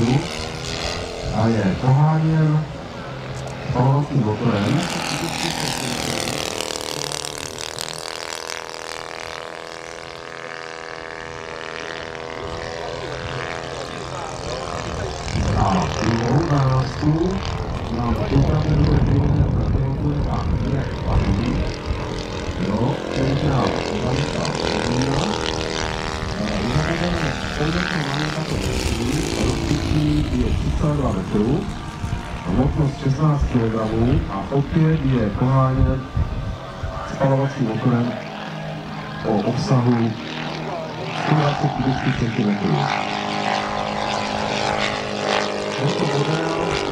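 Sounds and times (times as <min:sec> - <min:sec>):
model airplane engine drone: 0:00.0 - 0:46.9.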